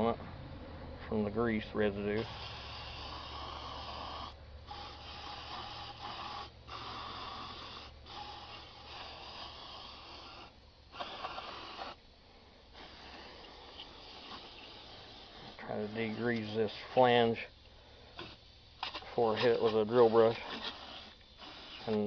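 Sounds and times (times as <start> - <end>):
aerosol can spraying hiss: 2.1 - 12.0, 12.7 - 22.0.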